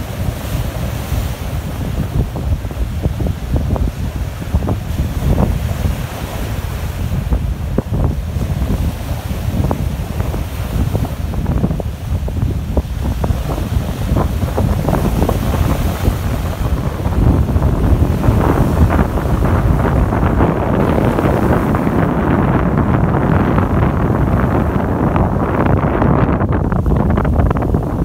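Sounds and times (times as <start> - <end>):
sea surf splashing on shore: 0.0 - 28.0
wind buffeting microphone: 0.0 - 28.0.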